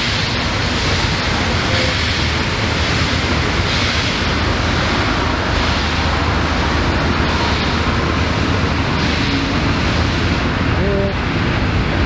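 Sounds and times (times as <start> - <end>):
train carriages rushing past: 0.0 - 12.0.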